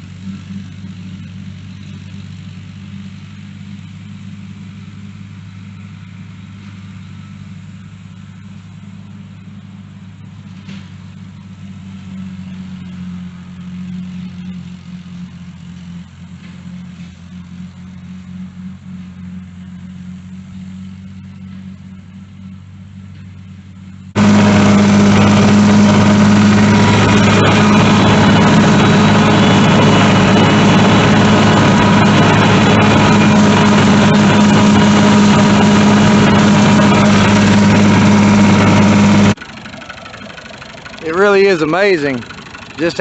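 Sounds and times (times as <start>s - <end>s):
rotary mower: 0.0s - 43.0s
tractor engine running: 0.0s - 43.0s.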